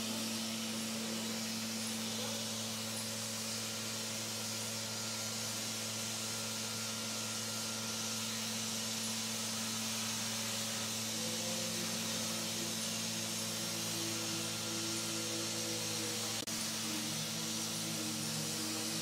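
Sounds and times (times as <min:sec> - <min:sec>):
low machine hum with hiss: 0:00.0 - 0:19.0.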